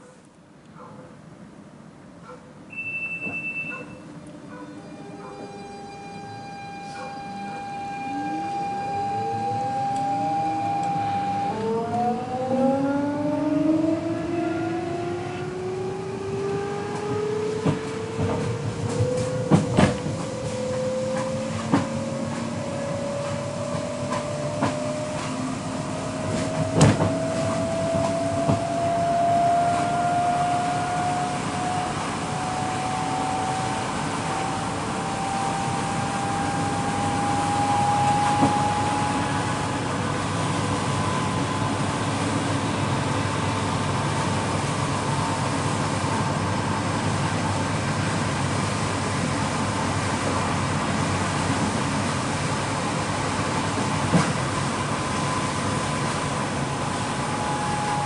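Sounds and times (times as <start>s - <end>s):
traction motor whine: 4.0s - 47.7s, 54.6s - 58.0s.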